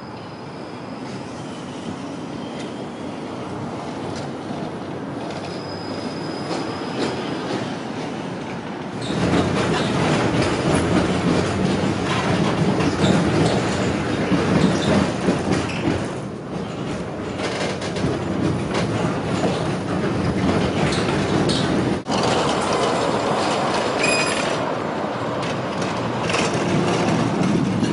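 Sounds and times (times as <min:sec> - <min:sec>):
tram wheels squealing: 0:00.0 - 0:08.3, 0:08.9 - 0:27.9
ride noise inside tram: 0:00.0 - 0:27.9
tram running on track: 0:00.0 - 0:27.9.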